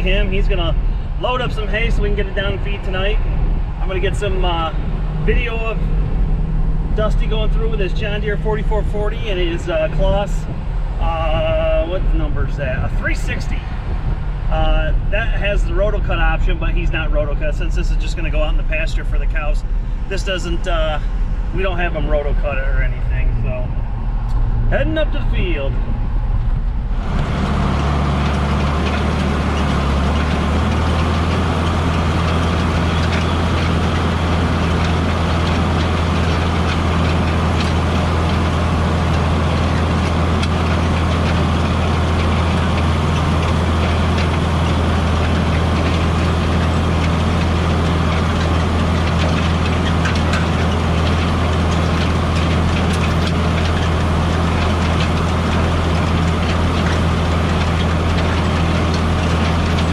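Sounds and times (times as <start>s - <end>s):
heavy engine humming: 0.0s - 59.9s.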